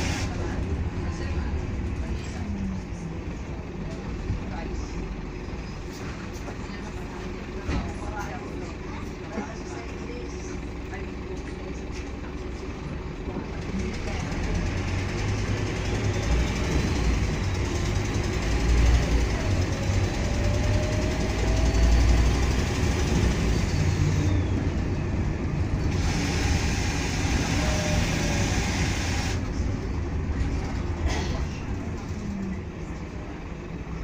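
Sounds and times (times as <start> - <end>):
bus diesel engine rumbling: 0.0 - 34.0
road noise: 0.0 - 34.0.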